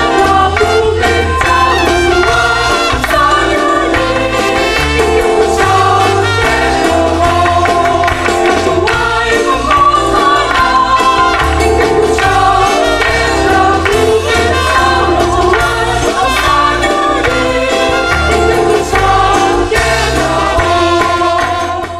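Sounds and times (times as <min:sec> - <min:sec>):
worship song singing: 0:00.0 - 0:21.9.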